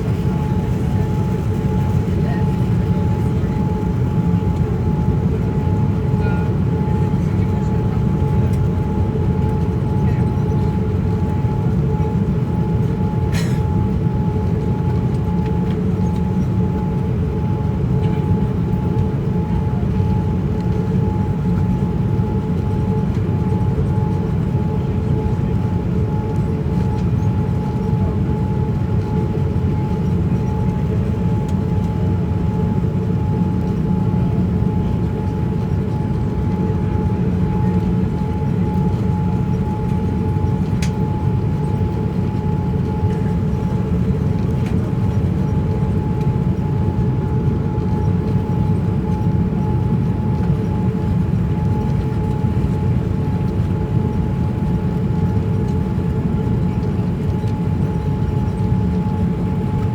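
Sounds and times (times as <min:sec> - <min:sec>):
airliner engines and airflow rumble: 0:00.0 - 0:59.9.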